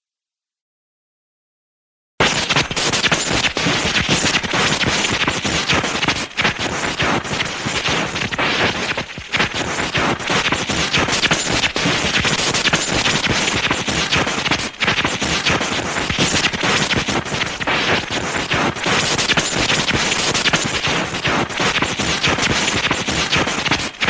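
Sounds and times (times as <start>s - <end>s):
electric sparks crackling: 2.2s - 24.0s.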